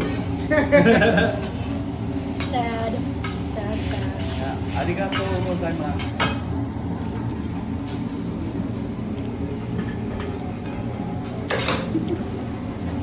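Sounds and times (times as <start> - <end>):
restaurant low rumble: 0.0 - 13.0.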